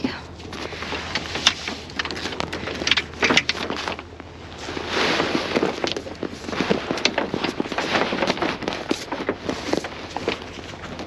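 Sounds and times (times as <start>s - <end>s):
plastic tarp crackling and rustling: 0.4s - 11.0s.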